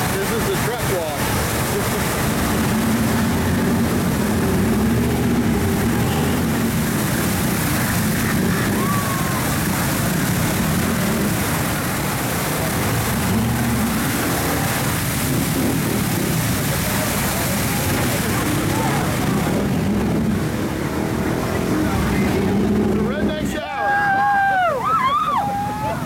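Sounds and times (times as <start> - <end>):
water jets spraying on truck: 0.0 - 26.0.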